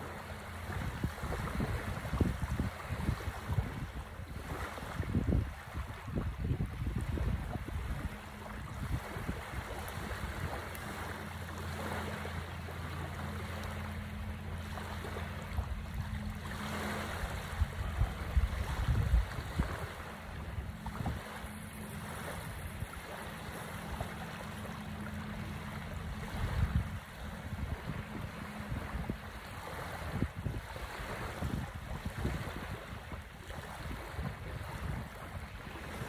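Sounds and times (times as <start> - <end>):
small waves washing onto sand: 0.0 - 36.0
steady low hum: 0.0 - 36.0
wind gusting on microphone: 0.6 - 11.1, 15.5 - 24.2, 26.1 - 36.0.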